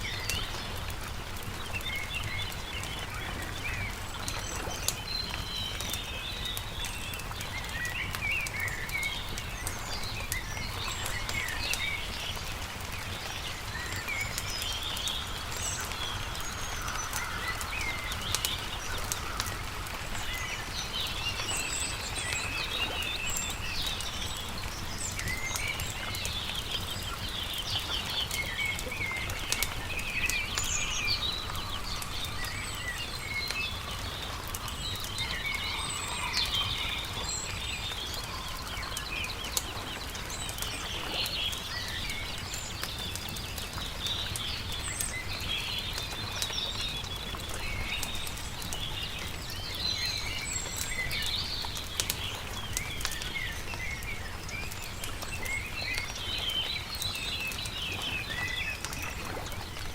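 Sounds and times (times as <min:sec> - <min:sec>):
campfire crackling: 0:00.0 - 0:59.9
small birds singing and chirping: 0:00.0 - 0:59.9.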